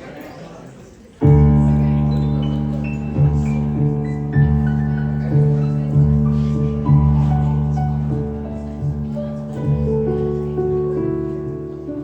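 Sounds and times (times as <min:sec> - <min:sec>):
piano playing: 0:01.2 - 0:12.0.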